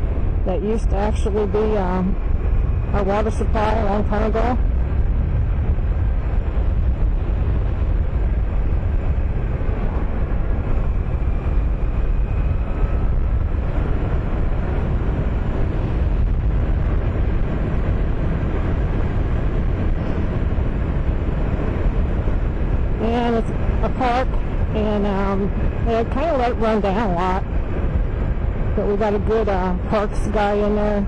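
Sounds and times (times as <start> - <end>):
road noise: 0.0 - 31.0
wind rushing on microphone: 0.0 - 31.0.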